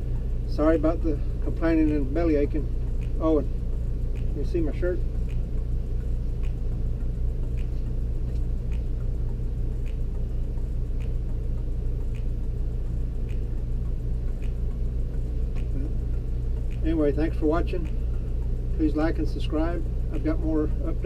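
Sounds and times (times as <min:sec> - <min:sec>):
low machine rumble: 0:00.0 - 0:21.0.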